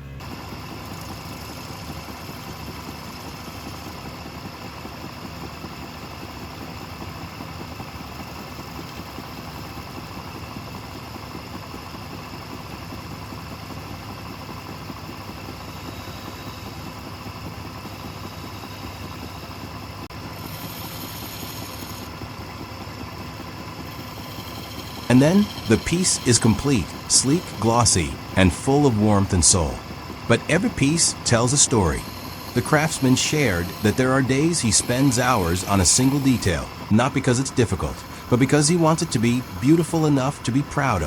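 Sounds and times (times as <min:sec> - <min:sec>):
wood lathe humming: 0:00.0 - 0:41.0.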